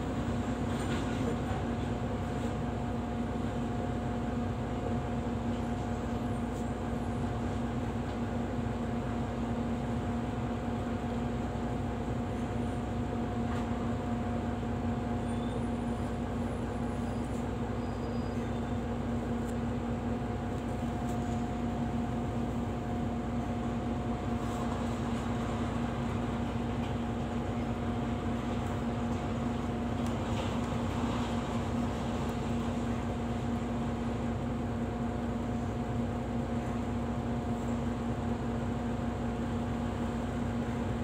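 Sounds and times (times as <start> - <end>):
bus machinery humming: 0.0 - 41.0.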